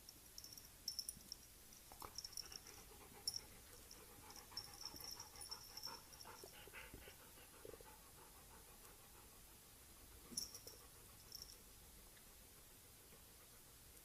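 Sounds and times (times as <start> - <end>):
dog panting: 1.9 - 14.0.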